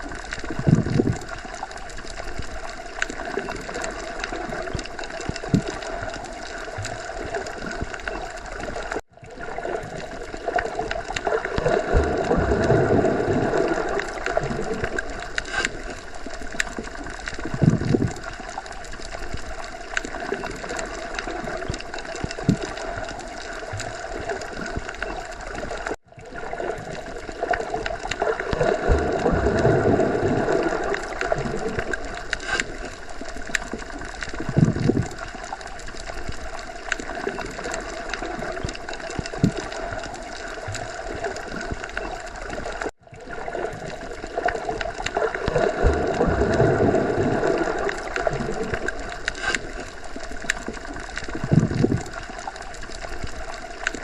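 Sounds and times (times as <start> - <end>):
muffled underwater water wash: 0.0 - 54.0.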